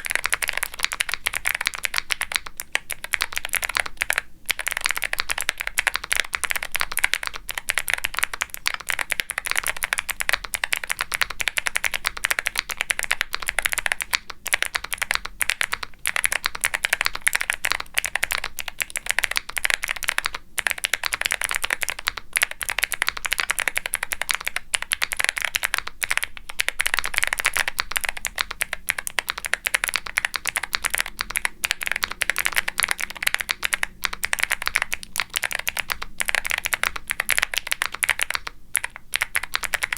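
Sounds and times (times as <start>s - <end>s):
fast typing on clicky keyboard: 0.0s - 39.9s.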